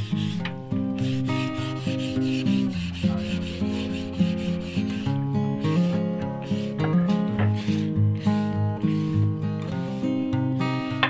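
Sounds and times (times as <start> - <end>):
sandpaper rubbing on wood: 0.0 - 10.9
background music: 0.0 - 11.0.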